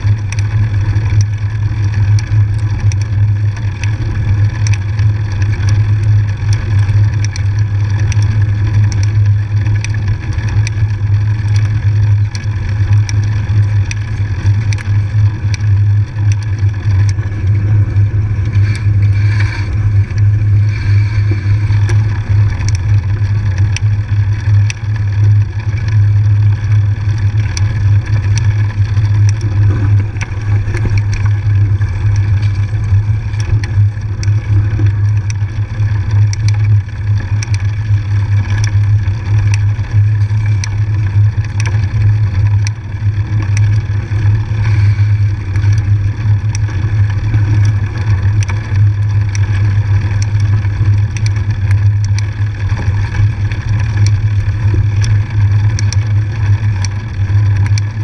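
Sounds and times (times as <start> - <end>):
bike clicks and rattles: 0.0 - 58.0
wind rumble on microphone: 0.0 - 58.0.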